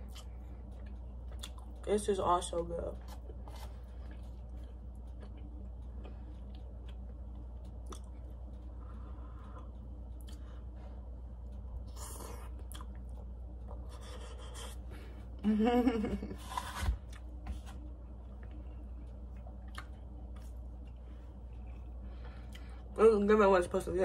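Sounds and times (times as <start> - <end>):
person chewing food: 0.0 - 1.8, 2.9 - 15.4, 16.3 - 23.0
steady low hum: 0.0 - 24.0.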